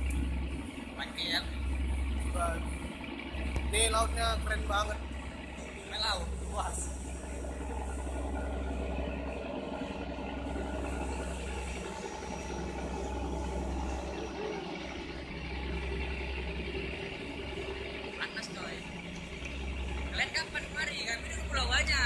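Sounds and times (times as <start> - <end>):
ferry engine running: 0.0 - 22.0.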